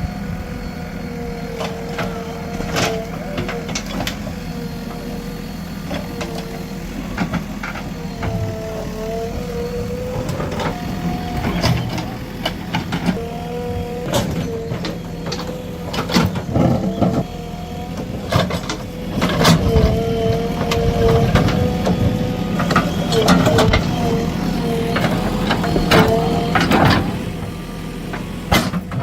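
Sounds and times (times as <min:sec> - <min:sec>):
diesel engine running: 0:00.0 - 0:29.0
wavering hydraulic whine: 0:00.0 - 0:29.0.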